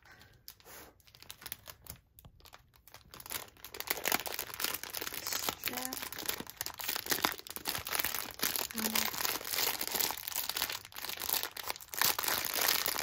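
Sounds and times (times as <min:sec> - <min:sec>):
plastic packaging crinkling: 0:00.1 - 0:13.0.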